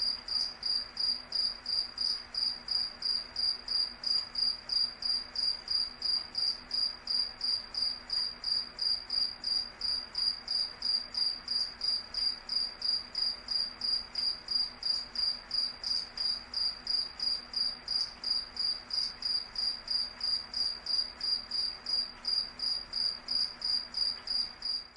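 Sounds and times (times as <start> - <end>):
cricket chirping: 0.0 - 24.9.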